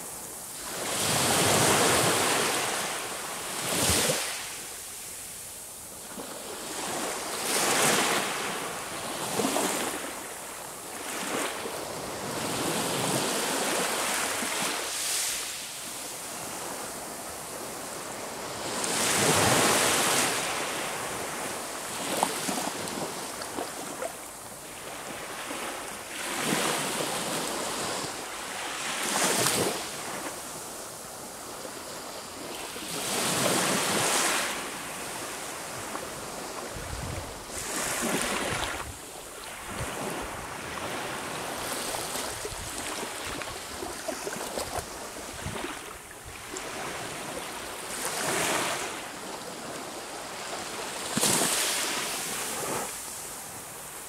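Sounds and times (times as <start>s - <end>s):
sea waves breaking on shore: 6.0s - 54.0s.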